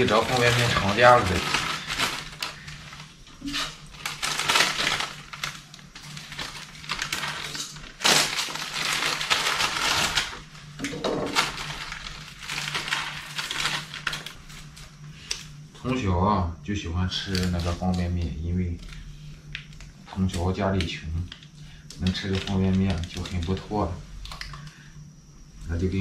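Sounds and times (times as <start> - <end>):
food packaging crackling and rustling: 0.0 - 15.6, 17.3 - 24.7
steady low hum: 0.0 - 26.0.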